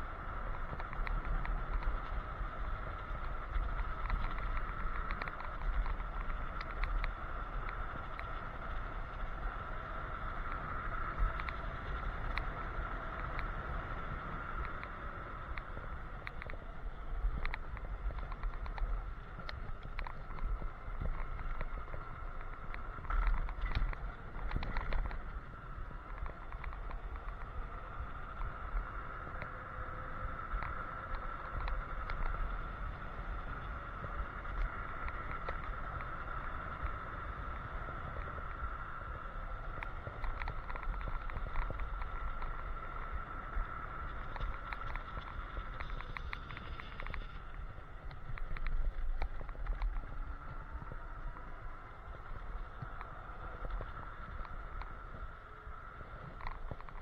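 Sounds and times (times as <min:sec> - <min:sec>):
high motor whine: 0:00.0 - 0:57.0
wind buffeting microphone: 0:00.0 - 0:57.0
handlebar clicks and rattles: 0:00.1 - 0:13.6, 0:14.2 - 0:57.0.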